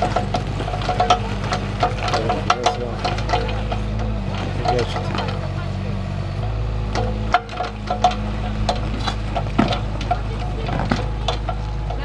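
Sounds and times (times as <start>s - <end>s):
bucket clicking and knocking: 0.0s - 5.6s, 6.9s - 12.0s
excavator engine running: 0.0s - 12.0s.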